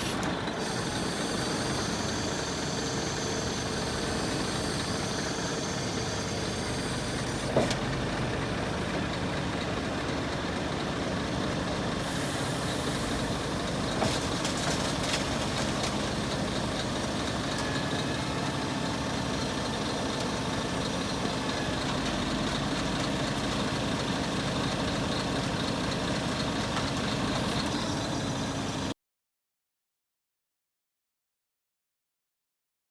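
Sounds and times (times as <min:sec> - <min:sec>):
truck diesel engine idling: 0:00.0 - 0:29.0.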